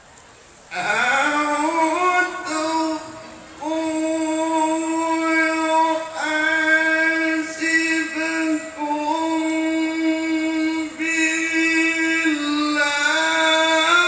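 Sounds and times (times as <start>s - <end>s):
man chanting recitation: 0.7s - 14.0s.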